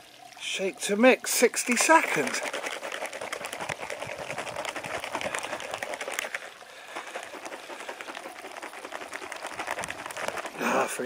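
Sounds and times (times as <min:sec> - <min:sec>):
liquid sloshing: 0:01.3 - 0:11.0
plastic pouch rustling: 0:01.7 - 0:11.0.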